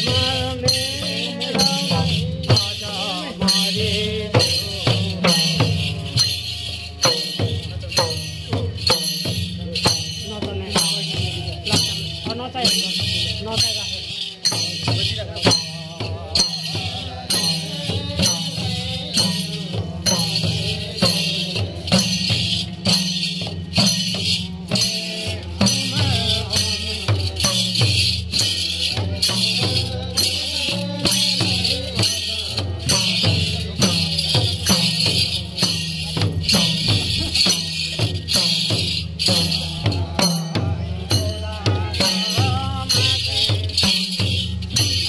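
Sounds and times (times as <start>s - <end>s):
bright jingling: 0.0s - 45.0s
hand drums playing: 0.0s - 45.0s.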